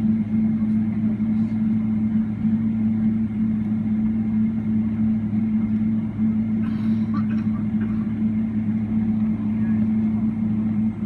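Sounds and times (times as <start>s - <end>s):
aircraft engines droning in cabin: 0.0s - 11.0s.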